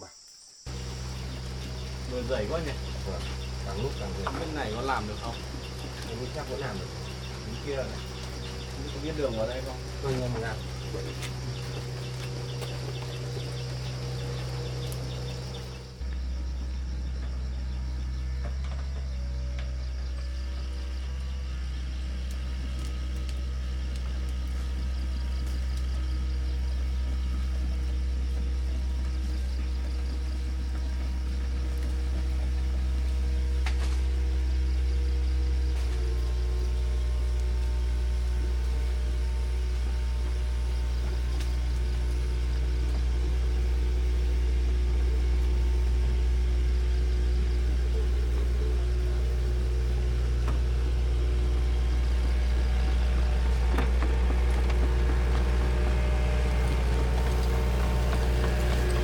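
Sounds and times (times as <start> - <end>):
bulldozer diesel engine running: 0.7 - 59.0.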